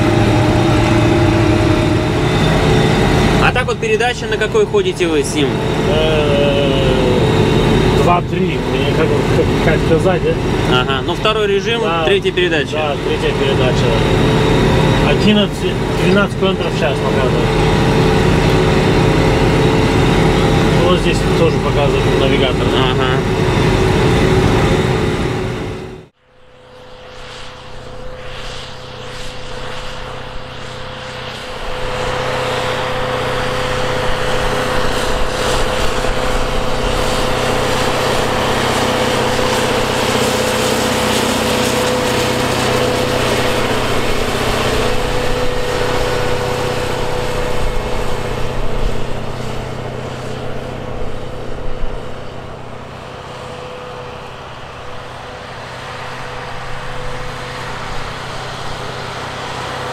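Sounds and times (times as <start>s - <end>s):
steady whine: 0.0s - 59.9s.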